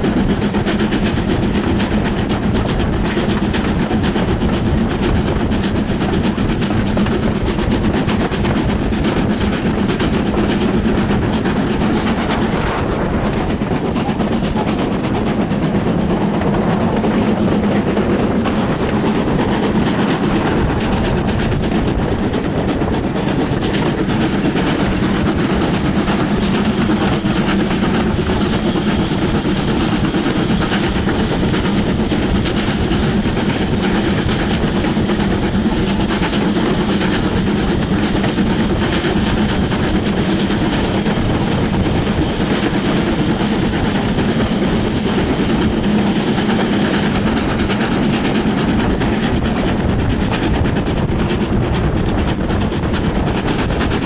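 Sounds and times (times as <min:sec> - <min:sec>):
steam locomotive running noise: 0:00.0 - 0:54.0
wheels clicking over rail joints: 0:00.0 - 0:54.0.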